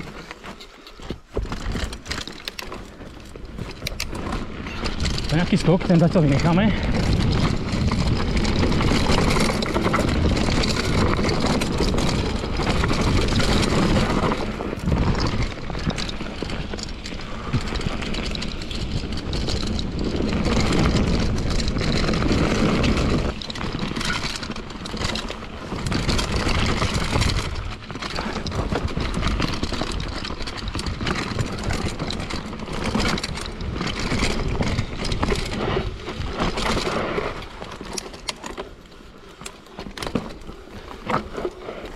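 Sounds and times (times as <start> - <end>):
bike knocks and rattles: 0.0 - 41.9
tyres over dirt and stones: 0.0 - 41.9.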